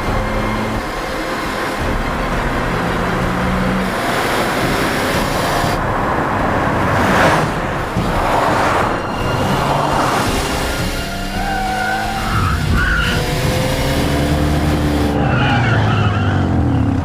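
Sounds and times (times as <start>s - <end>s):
car engines racing: 0.0s - 17.0s
heavy road noise: 0.0s - 17.0s.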